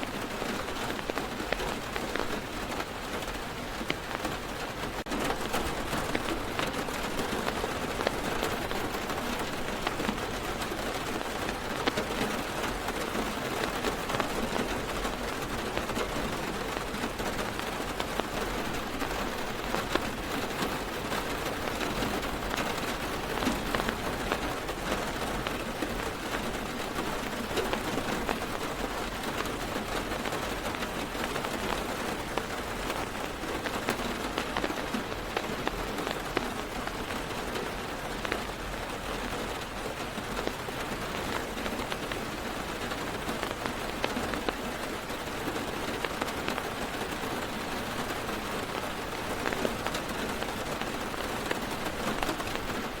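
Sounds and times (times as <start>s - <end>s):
heavy rain on car roof: 0.0s - 53.0s.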